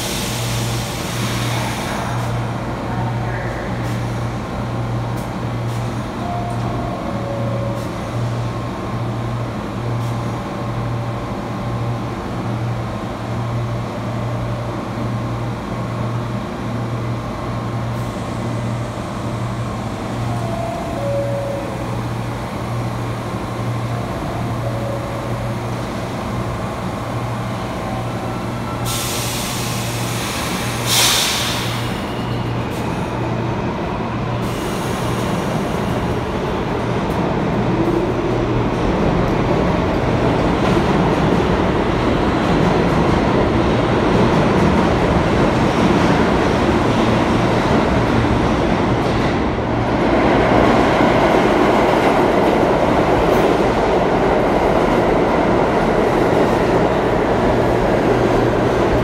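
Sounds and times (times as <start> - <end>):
subway train humming: 0.0 - 59.0.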